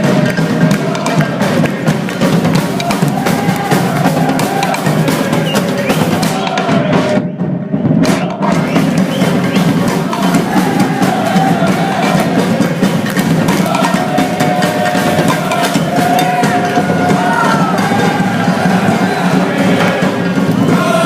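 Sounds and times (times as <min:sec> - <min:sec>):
music with busy drums: 0:00.0 - 0:21.0.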